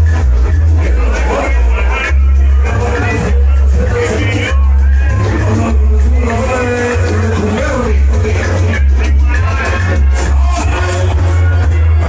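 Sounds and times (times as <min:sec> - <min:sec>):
heavy pulsing bass line: 0:00.0 - 0:12.0
loud dance music: 0:00.0 - 0:12.0.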